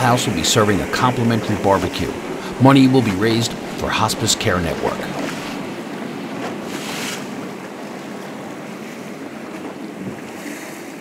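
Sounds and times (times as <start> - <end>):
boat engines: 0.0 - 11.0
rushing water: 0.0 - 11.0
wind buffeting microphone: 0.7 - 10.5.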